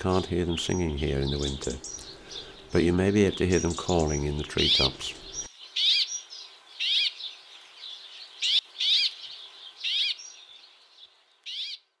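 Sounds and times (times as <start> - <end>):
bird short high calls: 0.7 - 2.8, 3.6 - 10.6, 11.4 - 11.9.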